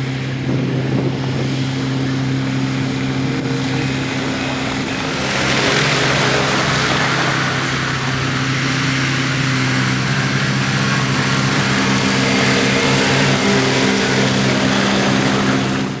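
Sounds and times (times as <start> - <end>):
construction machinery diesel engine: 0.0 - 16.0.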